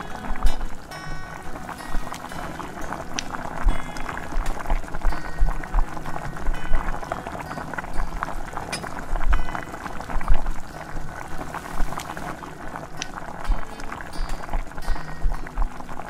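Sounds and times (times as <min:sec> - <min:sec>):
stew bubbling with small pops: 0:00.0 - 0:16.0.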